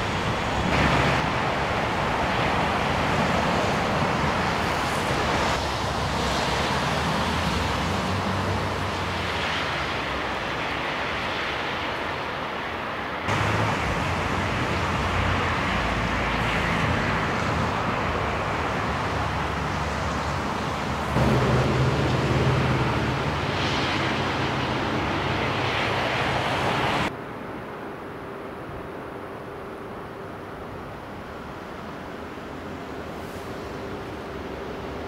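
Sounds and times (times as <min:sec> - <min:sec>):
outdoor noise with low rumble: 0:00.0 - 0:35.0.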